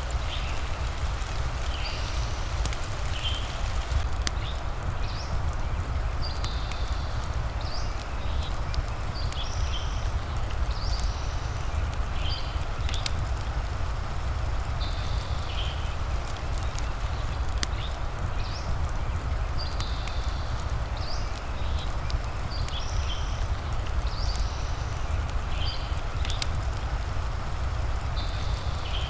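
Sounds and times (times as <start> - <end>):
fire crackling: 0.0 - 29.0
rain: 0.0 - 29.0.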